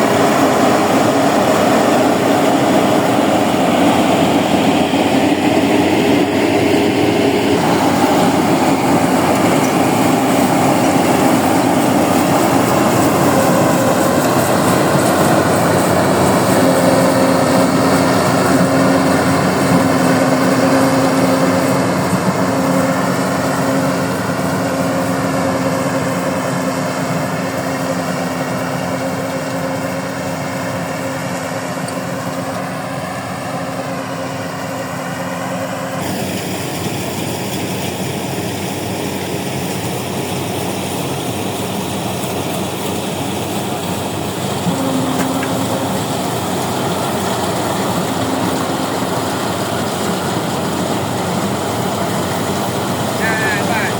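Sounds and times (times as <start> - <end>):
combine harvester engine droning: 0.0 - 53.9.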